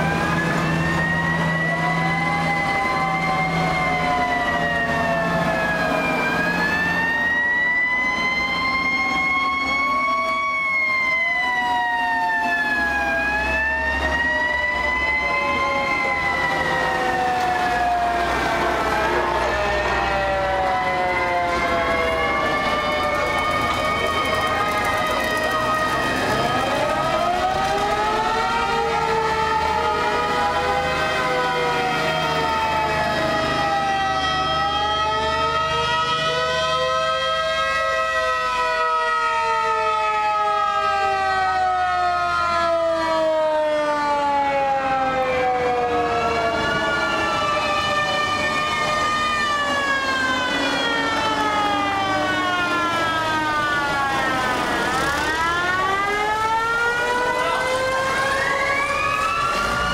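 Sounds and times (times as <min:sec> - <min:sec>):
siren wailing: 0:00.0 - 0:59.9.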